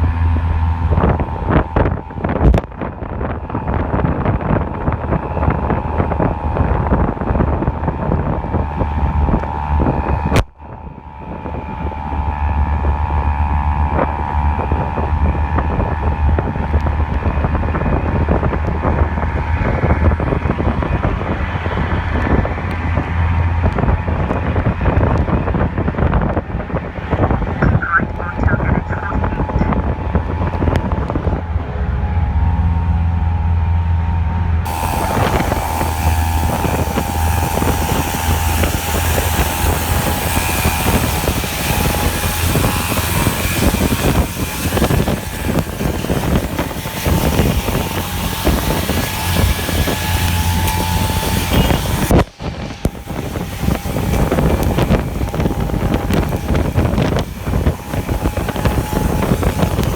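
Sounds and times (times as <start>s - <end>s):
vehicle engine hum: 0.0s - 59.9s.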